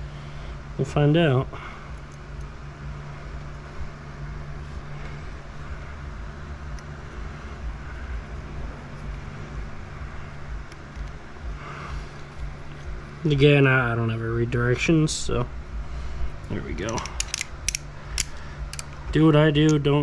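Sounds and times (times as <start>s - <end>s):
low background hum: 0.0s - 20.0s
low rumble: 0.0s - 20.0s.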